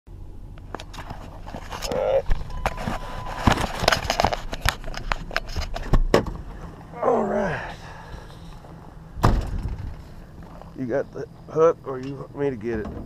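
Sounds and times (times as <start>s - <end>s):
pickup truck rumble: 0.1s - 13.0s.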